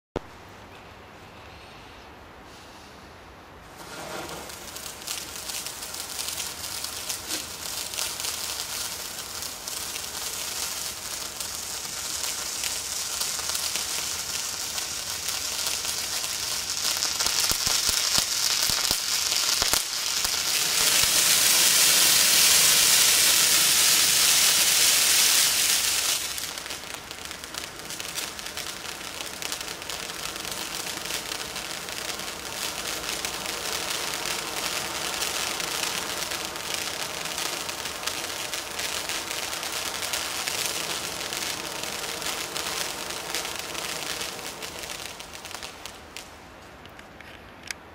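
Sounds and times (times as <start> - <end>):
firework fountain hissing and crackling: 3.6 - 47.8.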